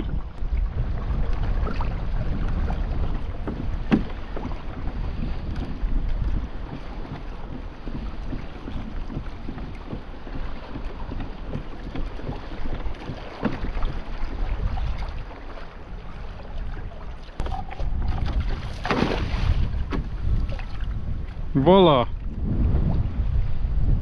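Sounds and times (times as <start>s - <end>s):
water sloshing against hull: 0.0s - 24.0s
wind buffeting microphone: 0.0s - 24.0s.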